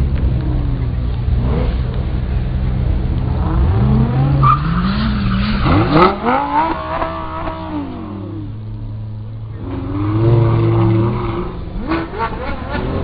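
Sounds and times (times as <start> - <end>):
sports car engine revving: 0.8 - 13.0.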